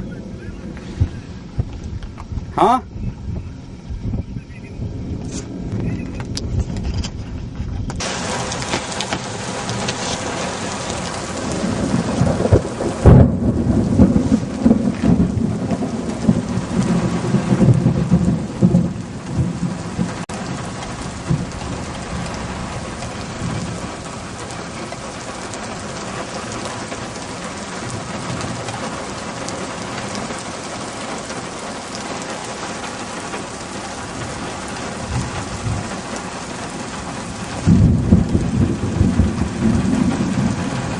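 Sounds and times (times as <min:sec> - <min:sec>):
heavy rain falling: 0:00.0 - 0:40.9
thunderclap rumbling: 0:00.0 - 0:40.9.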